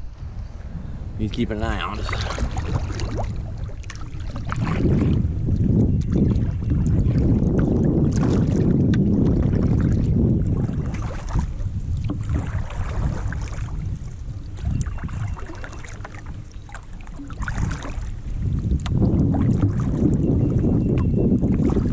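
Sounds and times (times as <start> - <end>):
wind buffeting microphone: 0.0 - 21.9
light water splashes: 1.3 - 21.9.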